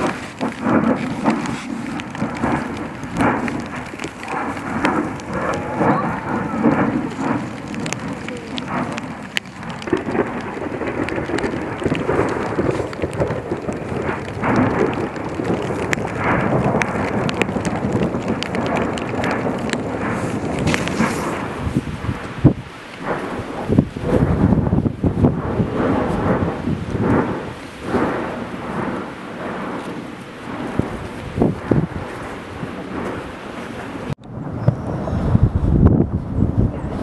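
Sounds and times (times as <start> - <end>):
sharp cracks and pops: 0.0 - 34.3
volcano deep rumbling roar: 0.0 - 37.0.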